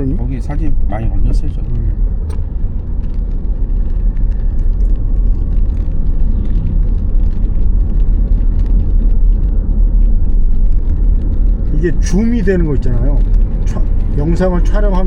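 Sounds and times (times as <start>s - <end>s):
road and tyre rumble: 0.0s - 15.0s.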